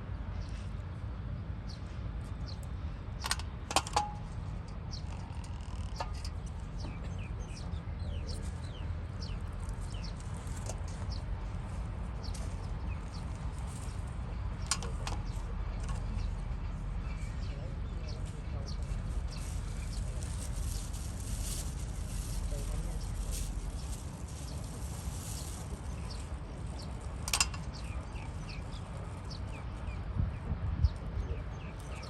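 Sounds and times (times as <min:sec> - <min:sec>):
low steady rumble: 0:00.0 - 0:32.0
small birds chirping: 0:04.8 - 0:32.0.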